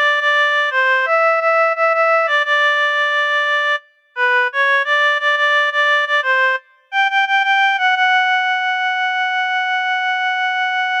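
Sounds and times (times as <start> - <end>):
reedy keyboard melody: 0.0 - 11.0.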